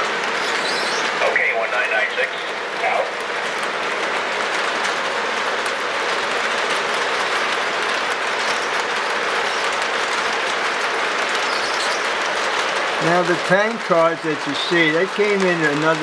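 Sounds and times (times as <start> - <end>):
model train wheels rolling: 0.0 - 16.0
clicks over rail joints: 2.8 - 16.0.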